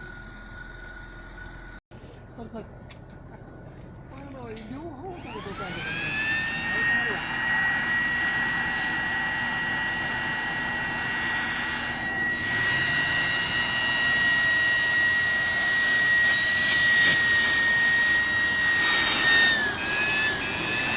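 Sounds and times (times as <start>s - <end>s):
engine whining: 0.0s - 1.8s, 3.0s - 20.9s.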